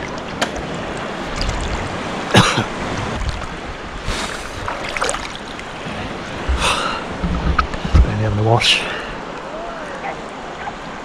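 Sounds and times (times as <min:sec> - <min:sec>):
sea water splashing and lapping: 0:00.0 - 0:11.0.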